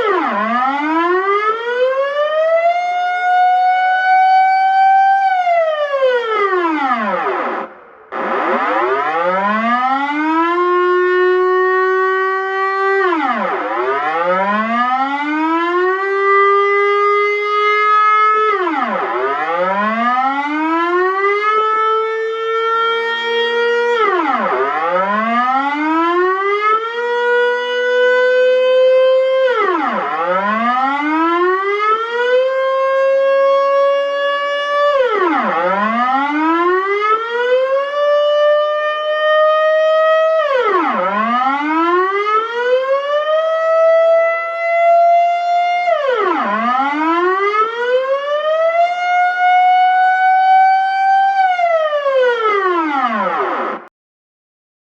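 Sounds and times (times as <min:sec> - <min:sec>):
air-raid siren wailing: 0:00.0 - 0:53.9.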